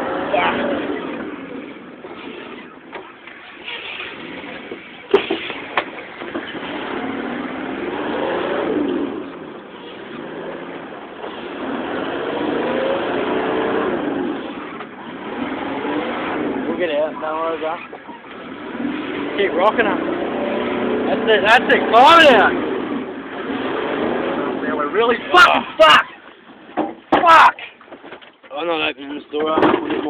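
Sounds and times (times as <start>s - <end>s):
truck engine revving: 0.0s - 26.5s.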